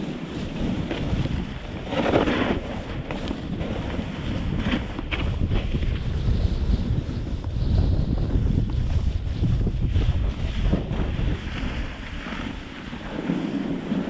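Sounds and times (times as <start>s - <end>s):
skis scraping through snow: 0.0s - 14.0s
wind buffeting microphone: 0.0s - 14.0s.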